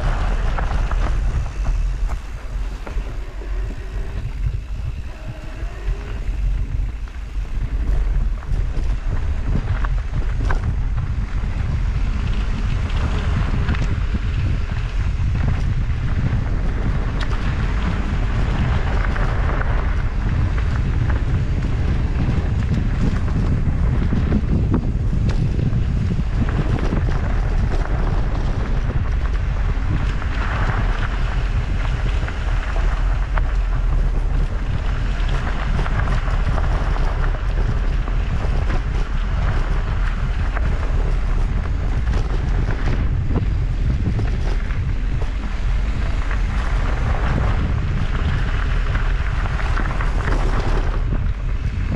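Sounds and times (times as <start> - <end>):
bike rattling: 0.0 - 51.9
tyres crunching on dirt: 0.0 - 51.9
wind rumbling on microphone: 0.0 - 51.9.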